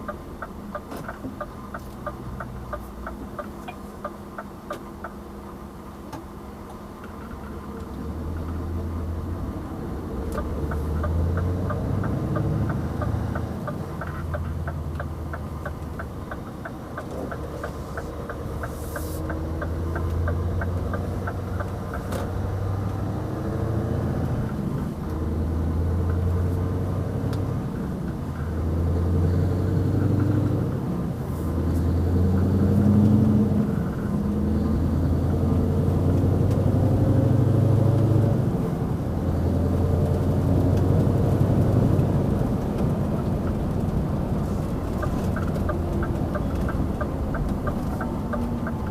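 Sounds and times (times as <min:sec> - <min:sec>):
diesel truck engine under load: 0:00.0 - 0:48.9.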